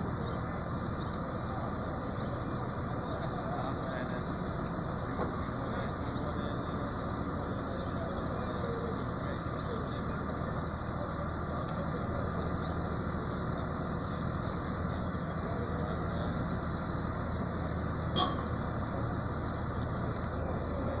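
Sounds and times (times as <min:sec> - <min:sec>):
diesel crane engine running: 0:00.0 - 0:21.0.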